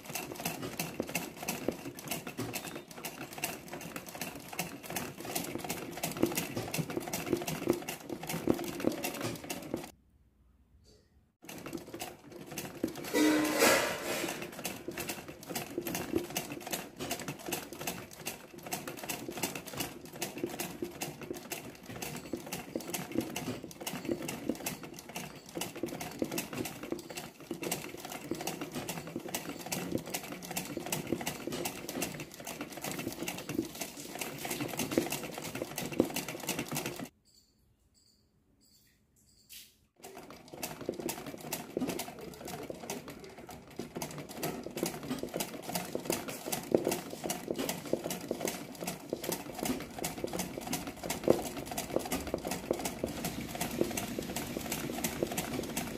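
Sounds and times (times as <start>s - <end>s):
sewing machine running fast: 0.0s - 9.9s, 11.4s - 37.1s, 40.0s - 55.9s.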